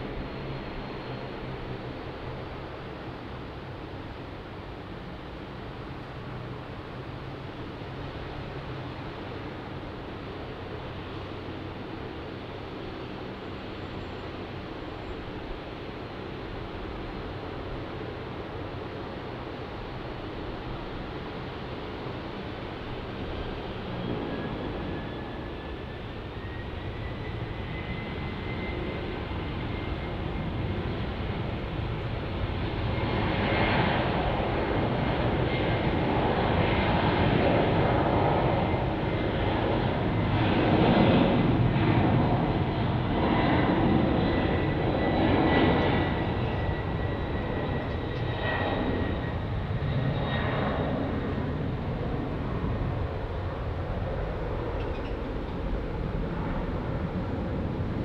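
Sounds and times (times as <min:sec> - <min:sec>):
jet engine rumble: 0:00.0 - 0:58.0
jet engine whine: 0:00.0 - 0:58.0.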